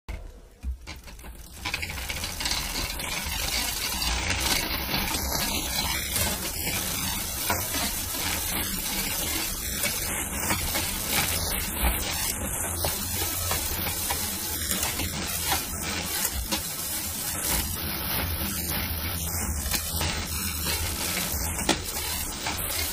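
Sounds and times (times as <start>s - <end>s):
bicycle chain gritty rattle: 0.6s - 22.9s.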